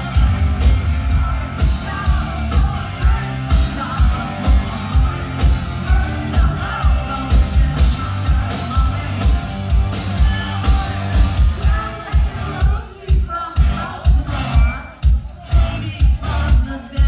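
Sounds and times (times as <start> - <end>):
hard rock band playing: 0.0 - 17.0
lead vocals: 0.0 - 17.0.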